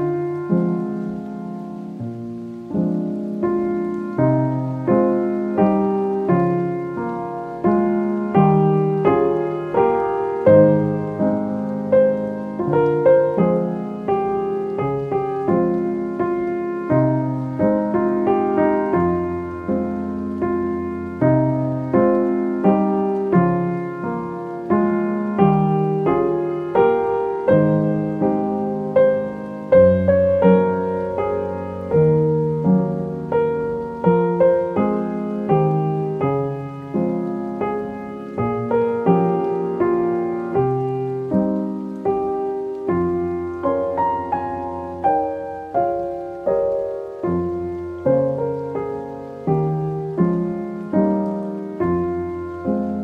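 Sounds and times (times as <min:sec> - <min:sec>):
classical piano music: 0:00.0 - 0:53.0.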